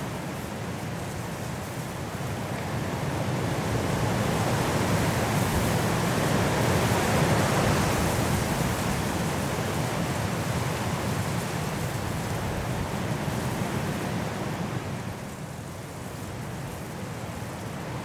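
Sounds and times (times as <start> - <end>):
wind roaring through trees: 0.0 - 18.0.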